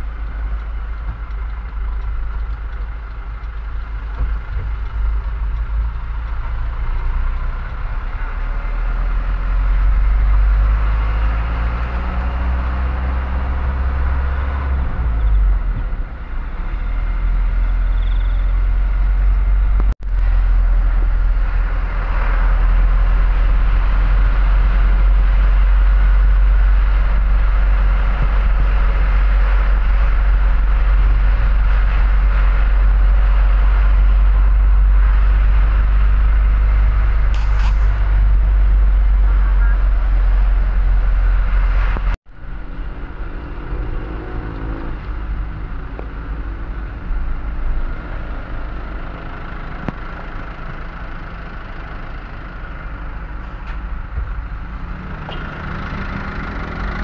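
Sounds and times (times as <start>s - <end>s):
truck diesel engine running: 0.0s - 44.2s, 44.9s - 57.0s
road noise: 0.0s - 57.0s.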